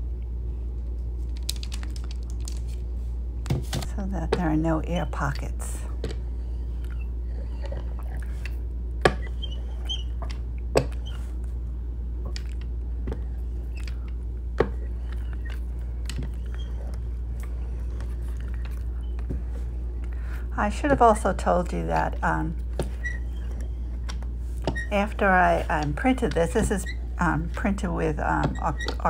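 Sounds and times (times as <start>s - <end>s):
steady low hum: 0.0s - 29.0s
rubber roller rolling: 3.5s - 11.6s, 12.2s - 19.9s, 20.9s - 29.0s.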